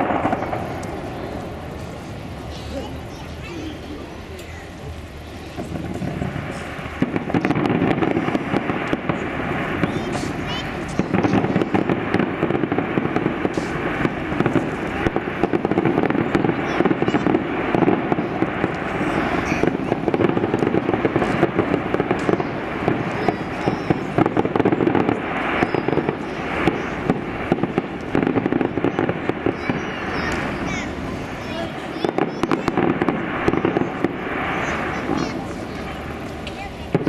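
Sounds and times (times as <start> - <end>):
fireworks bangs and crackle: 0.0 - 37.0.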